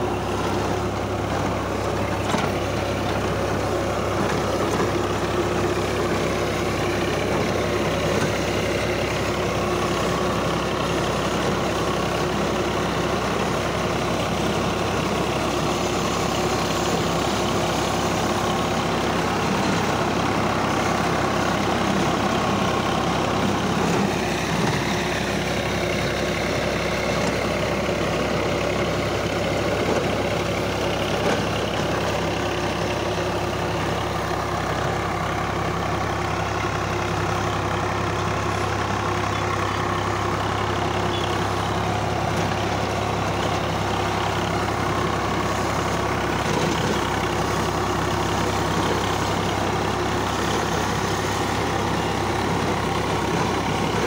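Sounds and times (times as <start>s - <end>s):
rotavator churning stubble: 0.0s - 54.0s
tractor diesel engine under load: 0.0s - 54.0s.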